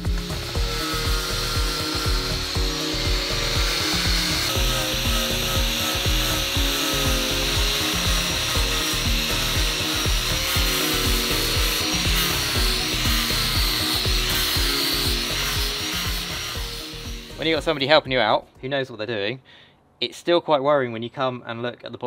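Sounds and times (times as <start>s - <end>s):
angle grinder grinding fibreglass: 0.0s - 17.8s
background music with steady beat: 0.0s - 19.2s.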